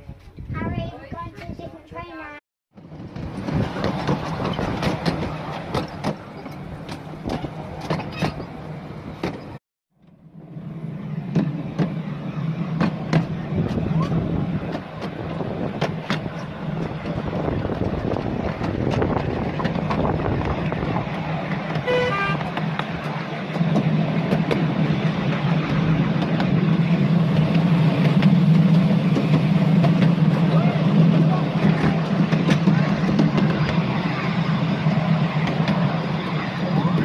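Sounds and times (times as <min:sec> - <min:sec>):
small train engine running: 0:02.8 - 0:37.0.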